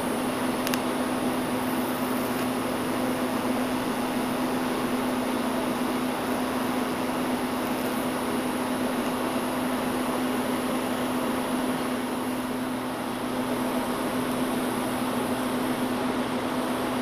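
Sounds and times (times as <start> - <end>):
constant low hum: 0.0 - 17.0
welding arc hissing: 0.0 - 17.0.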